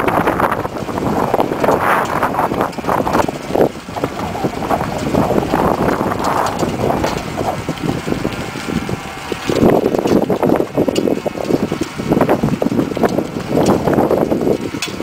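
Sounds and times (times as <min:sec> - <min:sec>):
rototiller churning soil: 0:00.0 - 0:15.0.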